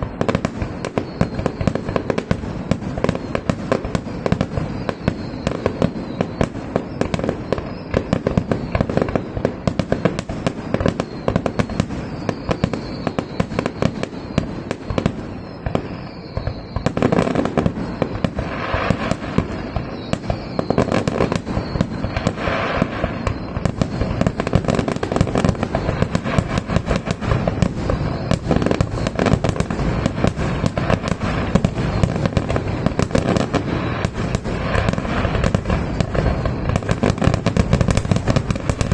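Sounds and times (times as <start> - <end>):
falling firework whistles: 0.0 - 38.9
fireworks bangs and crackles: 0.0 - 38.9.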